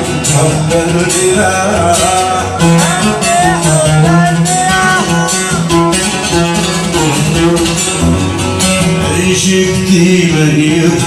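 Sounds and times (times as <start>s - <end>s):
plucked strings melody: 0.0s - 11.0s.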